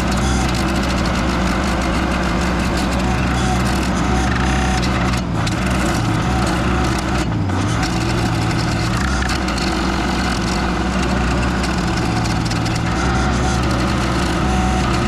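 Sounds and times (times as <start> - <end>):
engine drone: 0.0 - 15.0
stump grinder grinding wood: 0.0 - 15.0.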